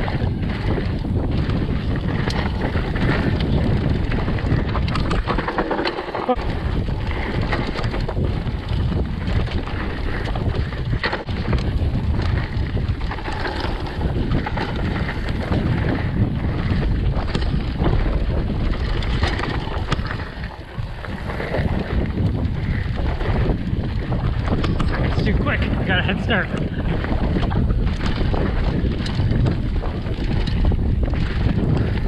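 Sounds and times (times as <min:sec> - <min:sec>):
bike clicking and rattling: 0:00.0 - 0:32.0
bike tyres rumbling on dirt: 0:00.0 - 0:32.0
wind buffeting microphone: 0:00.0 - 0:32.0.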